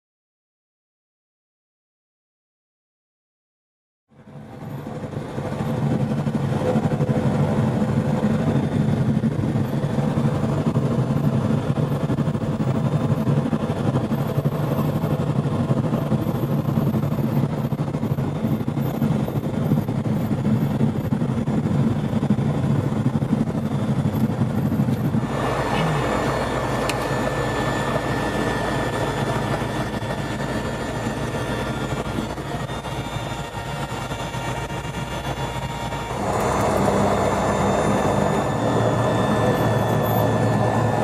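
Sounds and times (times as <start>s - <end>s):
aircraft engine and propeller drone: 4.1s - 41.0s.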